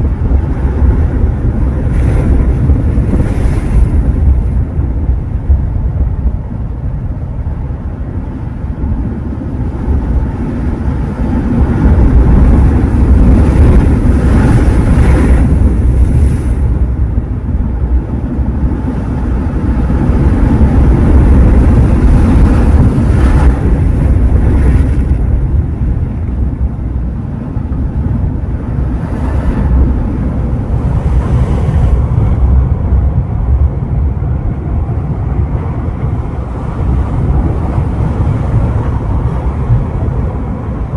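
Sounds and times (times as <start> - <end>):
waves breaking and washing in: 0.0 - 40.9
wind rumbling on microphone: 0.0 - 40.9.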